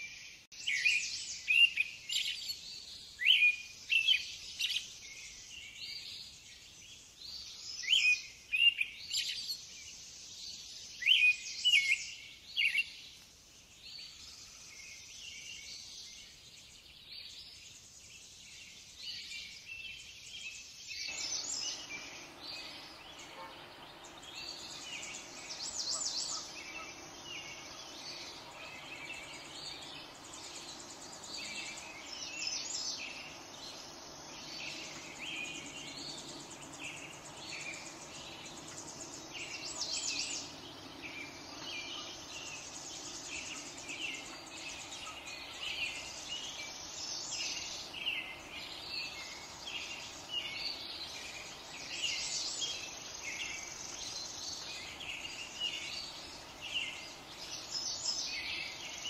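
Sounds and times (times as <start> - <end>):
low background hiss: 0.0 - 59.0
songbirds chirping and singing: 0.0 - 59.0.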